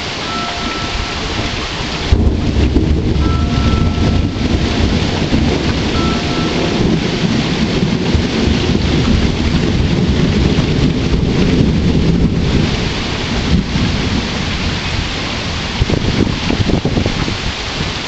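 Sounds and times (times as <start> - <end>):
steady rain falling: 0.0 - 18.0
low roll of thunder: 0.5 - 17.4.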